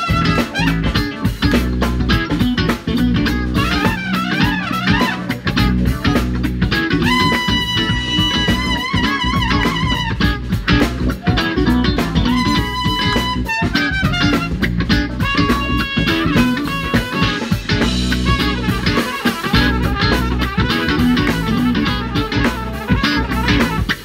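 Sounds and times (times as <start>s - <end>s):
trumpet playing: 0.0s - 1.9s, 3.4s - 24.0s
drum kit: 0.0s - 24.0s
electric guitar: 0.0s - 24.0s.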